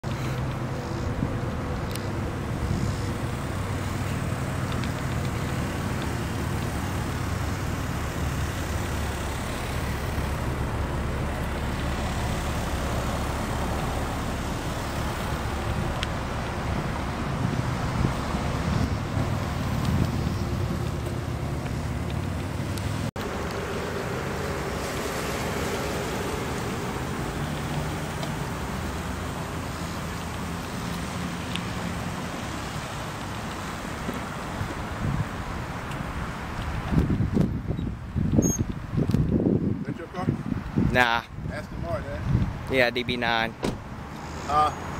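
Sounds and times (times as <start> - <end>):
low rumble of motor vehicles: 0.0 - 44.9
wind buffeting microphone: 0.5 - 42.8.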